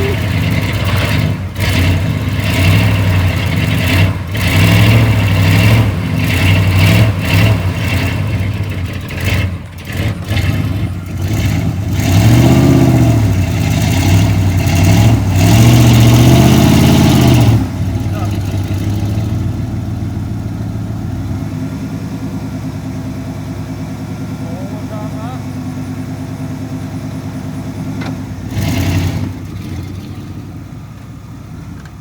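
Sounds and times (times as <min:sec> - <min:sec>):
pickup truck engine revving: 0:00.0 - 0:31.9.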